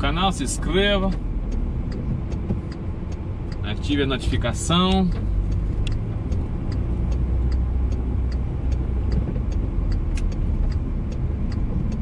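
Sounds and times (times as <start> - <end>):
engine and tyre hum: 0.0 - 12.0
turn signal ticking: 0.0 - 12.0.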